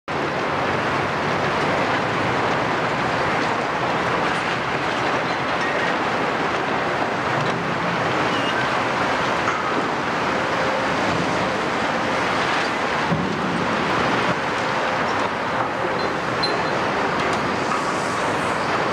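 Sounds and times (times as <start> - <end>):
heavy diesel engines running: 0.1 - 18.9.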